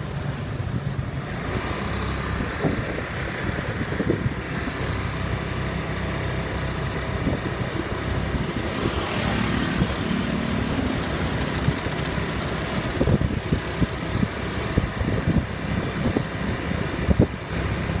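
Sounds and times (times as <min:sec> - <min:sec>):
atv engine humming: 0:00.0 - 0:18.0.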